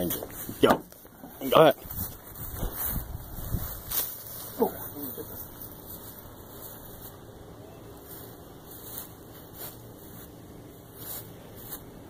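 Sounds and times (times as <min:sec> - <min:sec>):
soft rustles: 0:00.0 - 0:07.3, 0:07.9 - 0:12.0.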